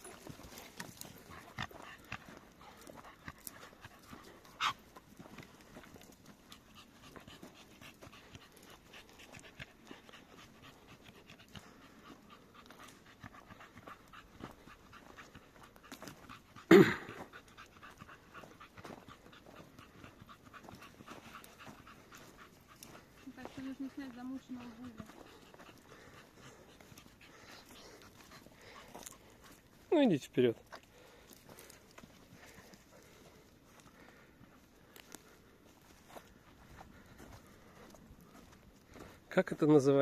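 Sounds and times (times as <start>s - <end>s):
dog panting: 0.0s - 40.0s.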